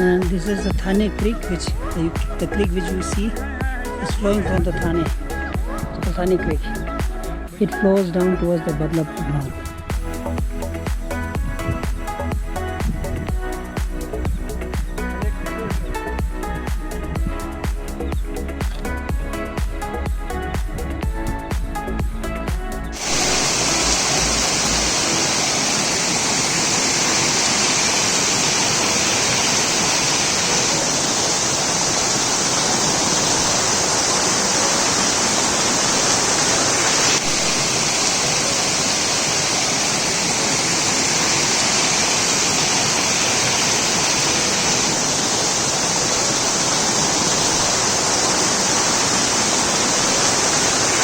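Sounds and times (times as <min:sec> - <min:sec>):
water rushing: 0:00.0 - 0:22.0, 0:22.8 - 0:51.0.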